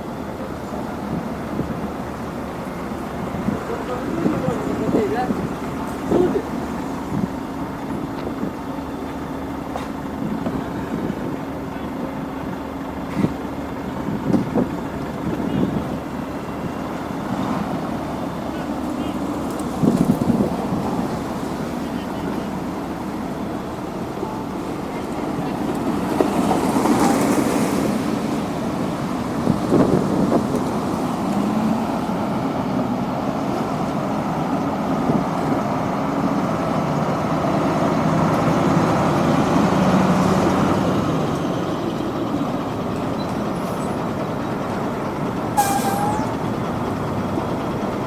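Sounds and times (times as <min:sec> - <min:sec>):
heavy machinery engine running: 0:00.0 - 0:48.0.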